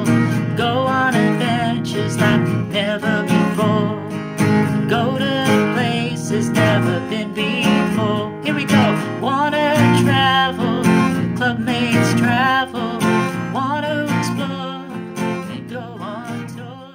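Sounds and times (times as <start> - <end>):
strummed acoustic guitar: 0.0 - 16.9.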